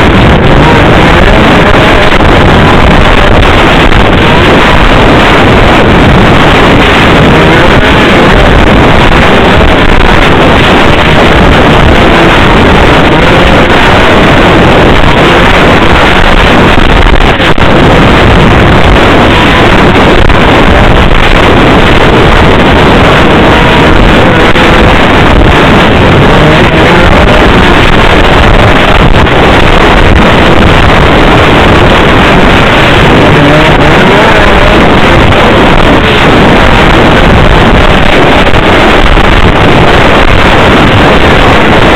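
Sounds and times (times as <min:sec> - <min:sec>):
snowmobile engine running: 0:00.0 - 0:41.9
wind buffeting on microphone: 0:00.0 - 0:41.9.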